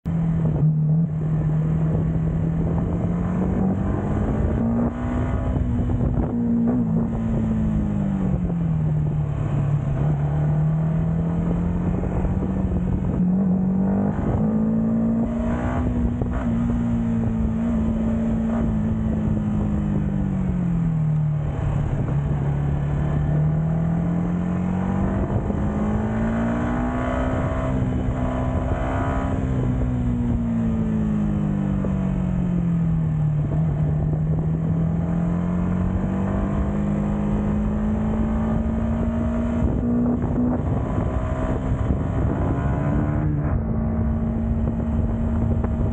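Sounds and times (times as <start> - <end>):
motorcycle engine revving: 0.1 - 45.9
wind noise: 0.1 - 45.9.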